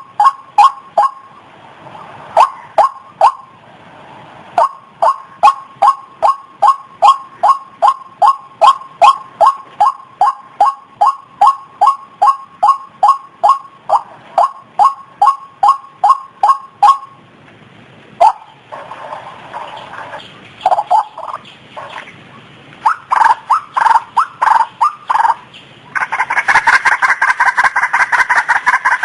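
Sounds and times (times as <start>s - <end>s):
waterhen calling: 0.0s - 3.6s, 4.5s - 17.3s, 18.1s - 29.0s.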